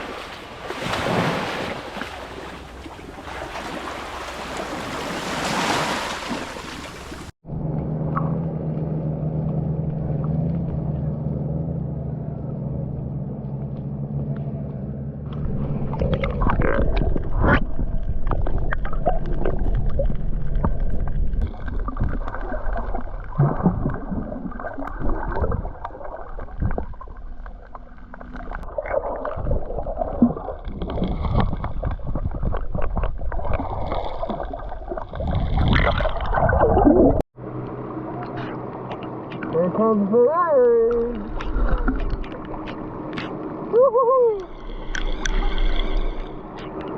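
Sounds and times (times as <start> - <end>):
boat engine humming: 1.7 - 35.1, 37.4 - 46.9.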